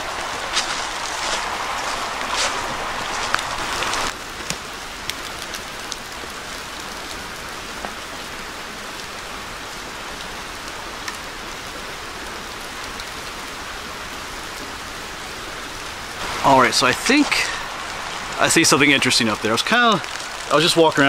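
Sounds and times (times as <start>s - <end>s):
creek rushing: 0.0s - 21.0s.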